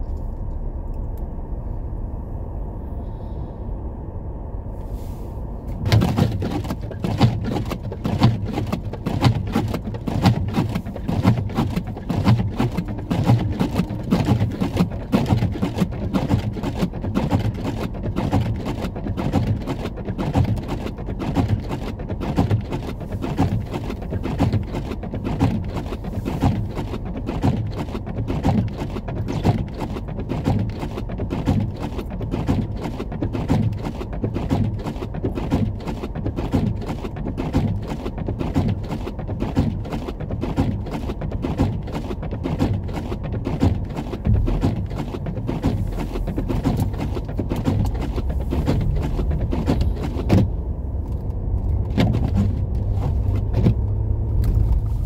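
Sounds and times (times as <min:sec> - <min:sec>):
car interior rumble: 0:00.0 - 0:55.0.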